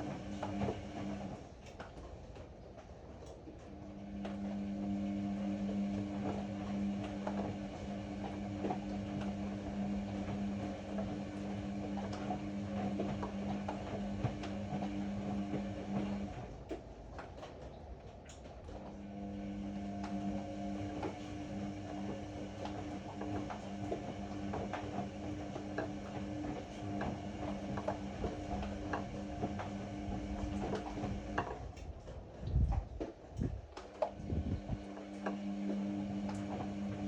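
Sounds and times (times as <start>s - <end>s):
washing machine drum motor hum: 0.0s - 37.0s.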